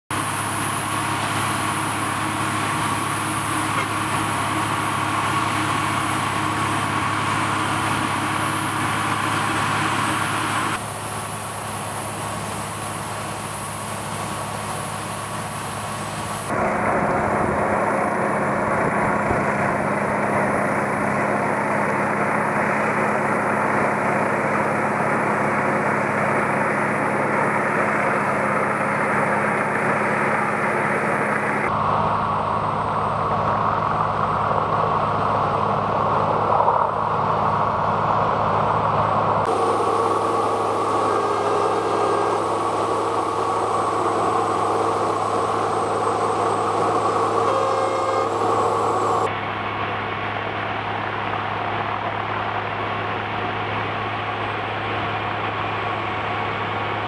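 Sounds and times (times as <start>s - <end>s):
wood chipper diesel drone: 0.1s - 57.0s.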